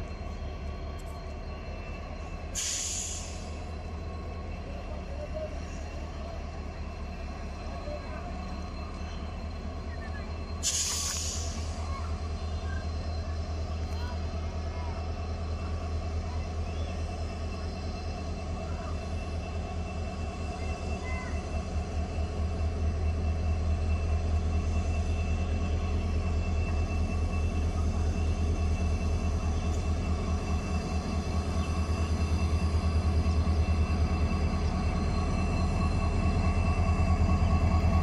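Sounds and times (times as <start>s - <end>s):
diesel locomotive engine throbbing: 0.0s - 38.0s.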